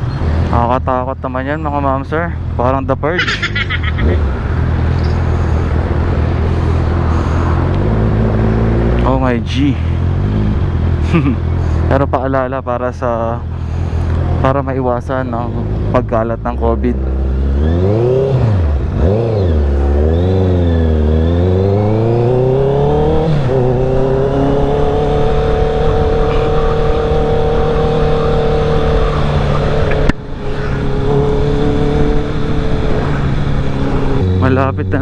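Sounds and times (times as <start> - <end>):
motorcycle engine revving: 2.3 - 12.5, 13.1 - 35.0.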